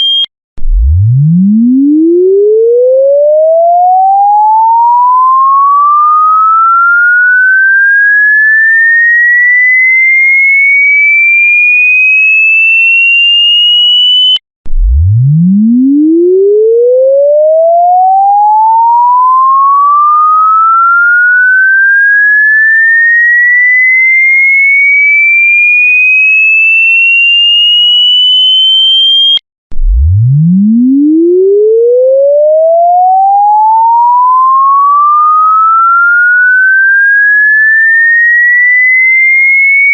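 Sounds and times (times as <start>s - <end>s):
electronic sine tone sweeping upward: 0.0s - 39.9s.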